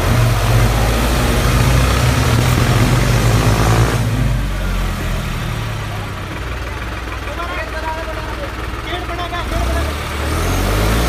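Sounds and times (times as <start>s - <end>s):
tractor engine idling: 0.0s - 10.3s.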